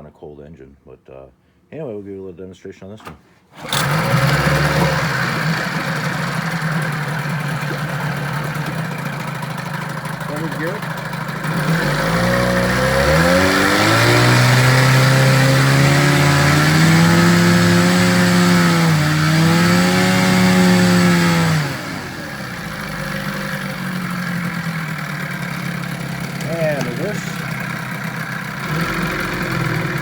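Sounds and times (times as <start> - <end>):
outboard motor running: 3.6 - 30.0.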